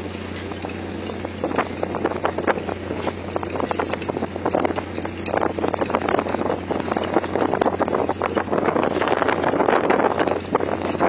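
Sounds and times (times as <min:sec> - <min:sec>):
low engine drone: 0:00.0 - 0:11.0
reels clicking and clattering: 0:00.0 - 0:11.0
water splashing: 0:00.0 - 0:11.0.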